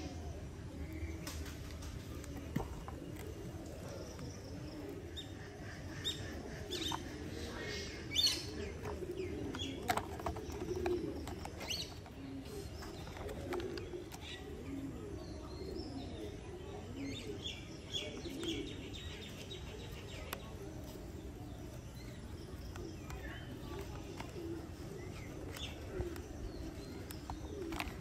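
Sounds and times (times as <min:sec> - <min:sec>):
pigeons cooing: 0:00.0 - 0:28.0
small birds chirping: 0:00.0 - 0:28.0.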